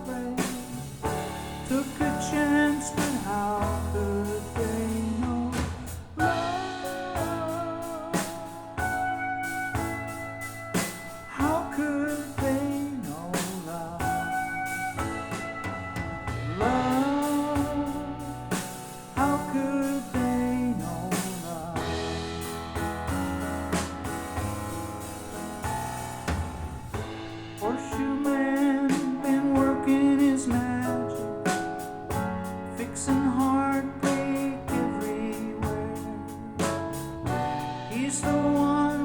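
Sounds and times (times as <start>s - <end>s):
country-rock song over loudspeakers: 0.0s - 24.5s, 27.5s - 39.0s.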